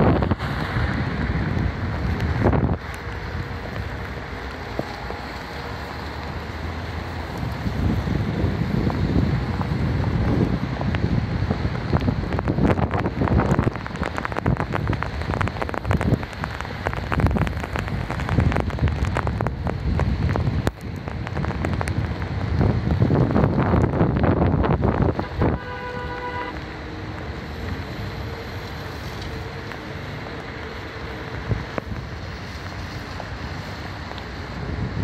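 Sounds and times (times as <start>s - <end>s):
steady rain: 0.0s - 35.0s
wind gusting on microphone: 0.0s - 35.0s.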